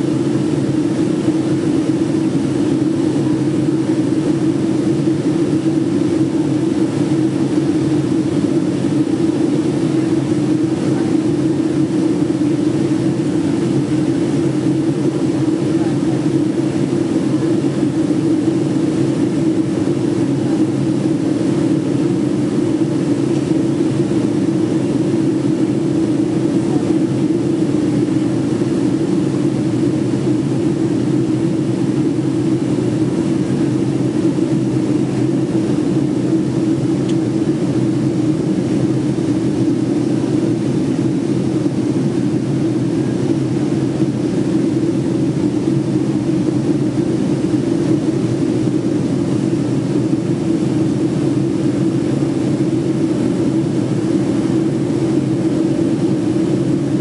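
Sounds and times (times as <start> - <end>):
jet engine cabin drone: 0.0 - 57.0.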